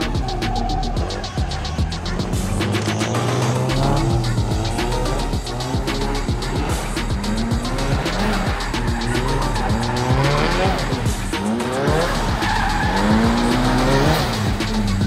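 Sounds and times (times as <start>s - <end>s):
tyres squealing on wet tarmac: 0.0s - 5.8s, 6.4s - 14.6s
car engine revving: 0.0s - 15.0s.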